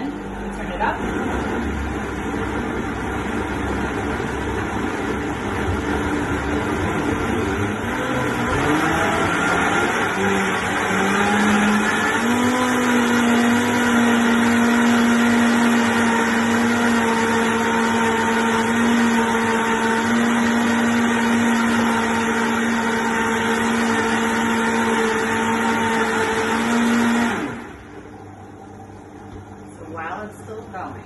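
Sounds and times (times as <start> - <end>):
blender whirring: 0.0 - 31.0.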